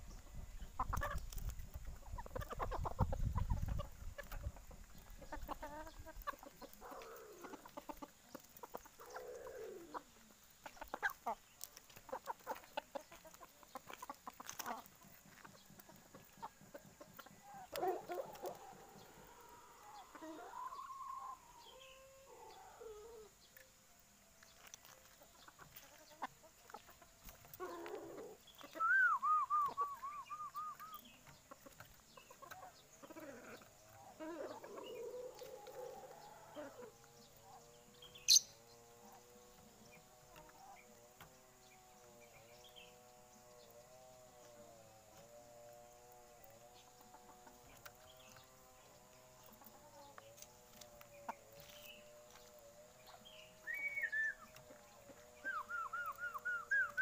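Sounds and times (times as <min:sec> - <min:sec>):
bird clucking and chattering: 0:00.1 - 0:23.4, 0:25.4 - 0:57.0.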